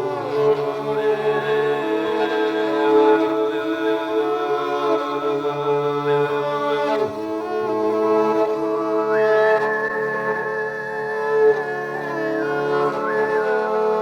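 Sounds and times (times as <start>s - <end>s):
music of long held notes: 0.0s - 14.0s.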